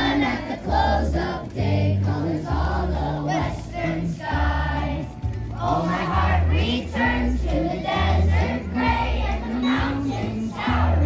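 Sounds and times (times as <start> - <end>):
children's choir singing: 0.0 - 11.0
instrumental accompaniment with deep bass: 0.0 - 11.0.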